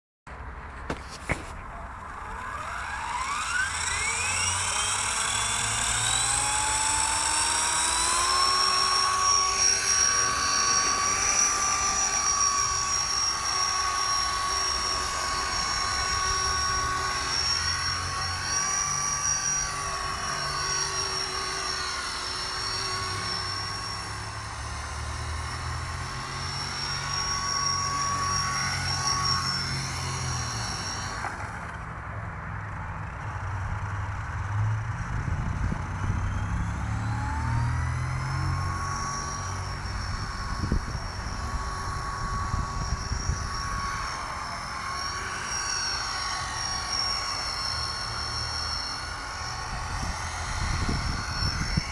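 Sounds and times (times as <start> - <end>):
rc helicopter rotor whine: 0.4 - 51.9.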